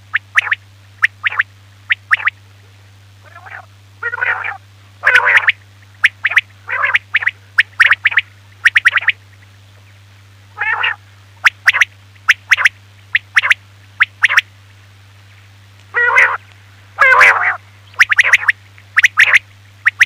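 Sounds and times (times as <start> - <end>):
quail calling: 0.0 - 2.4, 3.2 - 9.4, 10.5 - 14.5, 15.9 - 20.0
rasping quail calls: 0.0 - 2.4, 3.2 - 9.5, 10.5 - 14.5, 15.9 - 20.0
steady low hum: 0.0 - 20.0.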